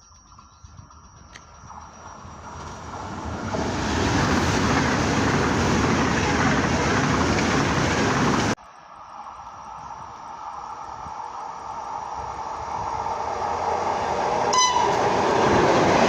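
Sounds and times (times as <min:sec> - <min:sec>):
train passing at speed: 0:01.7 - 0:16.0.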